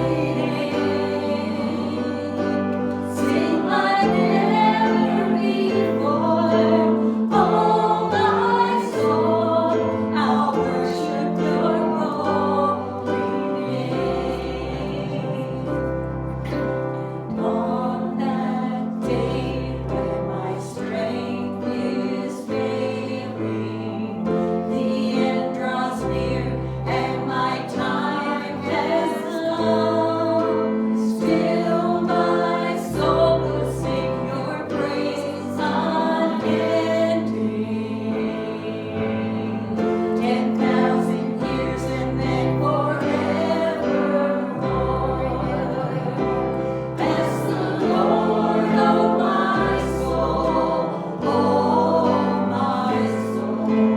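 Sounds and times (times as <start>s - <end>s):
group singing a hymn with band: 0.0s - 53.9s.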